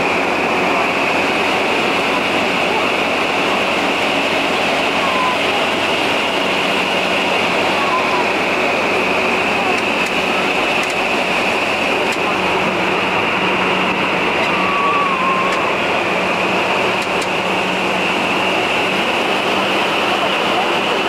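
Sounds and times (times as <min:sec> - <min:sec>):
high-pitched fan whine: 0:00.0 - 0:21.0.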